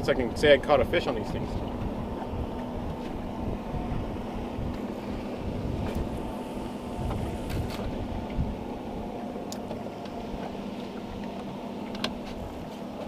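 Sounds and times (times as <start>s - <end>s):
wind buffeting microphone: 0.0s - 11.3s
steady low hum: 0.0s - 13.0s.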